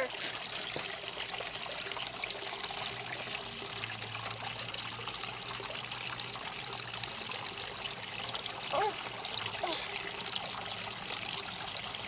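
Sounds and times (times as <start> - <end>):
water running and trickling: 0.0 - 12.0.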